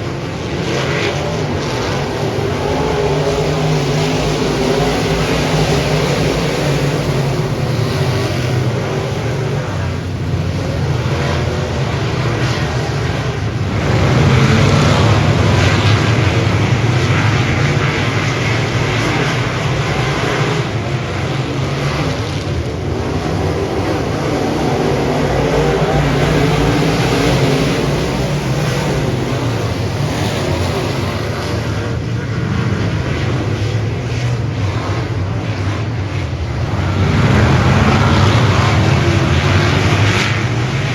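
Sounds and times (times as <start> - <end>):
race car engines at speed: 0.0 - 40.9.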